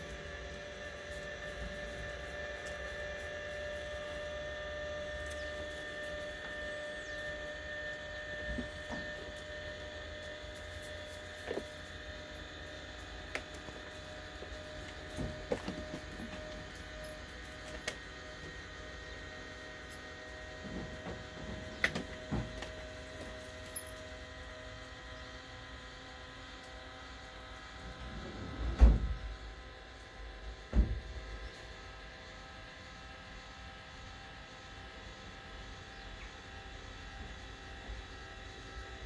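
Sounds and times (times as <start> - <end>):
small electric motor whining: 0.0 - 39.0.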